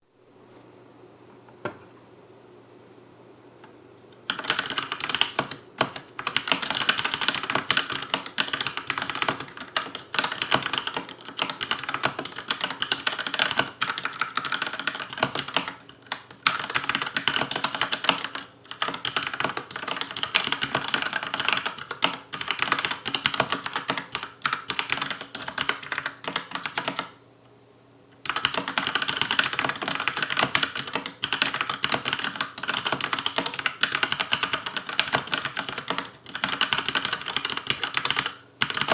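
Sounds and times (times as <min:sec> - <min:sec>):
mechanical keyboard typing: 0:04.3 - 0:27.2, 0:28.2 - 0:38.9.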